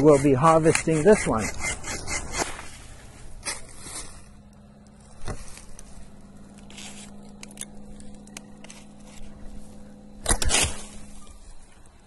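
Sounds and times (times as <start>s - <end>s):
bamboo scraping and crackling: 0.0s - 12.0s
steady low hum: 0.0s - 12.0s.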